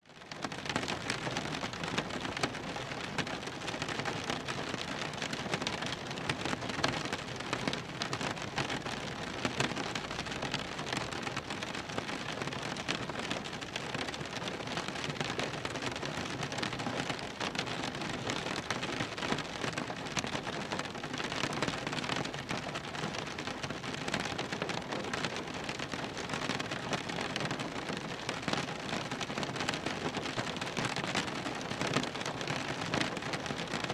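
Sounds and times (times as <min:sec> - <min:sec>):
rain on car body and glass: 0:00.2 - 0:33.9.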